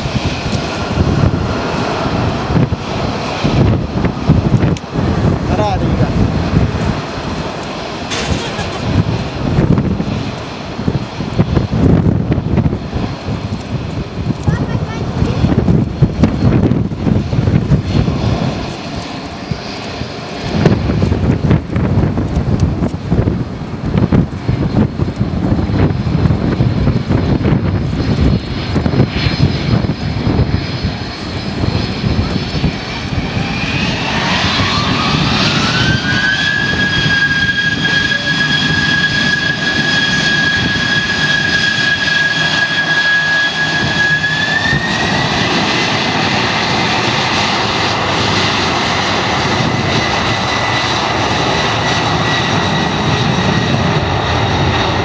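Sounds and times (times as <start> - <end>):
jet engine whine: 0.0 - 55.0
jet engines spooling up: 0.0 - 55.0
wind gusts on microphone: 0.0 - 55.0.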